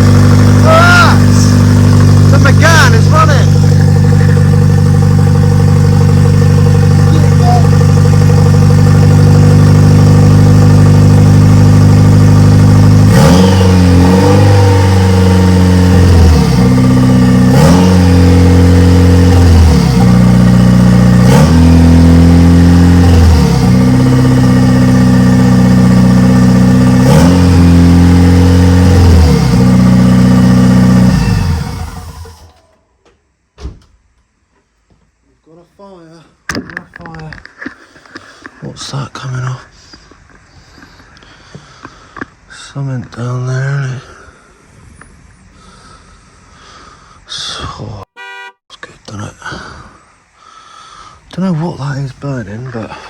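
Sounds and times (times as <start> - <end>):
car engine idling and revving: 0.0 - 33.4, 36.8 - 47.2.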